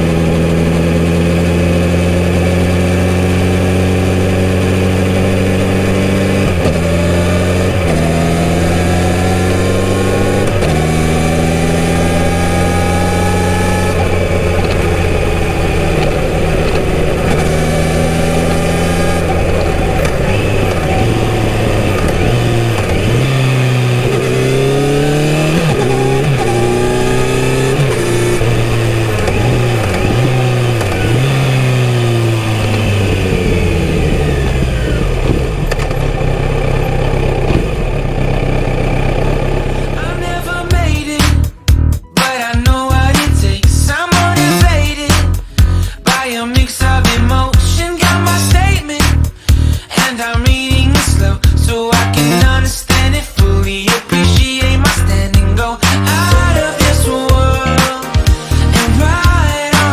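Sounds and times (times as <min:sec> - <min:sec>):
motorcycle engine shifting gears: 0:00.0 - 0:42.0, 0:42.7 - 0:59.9.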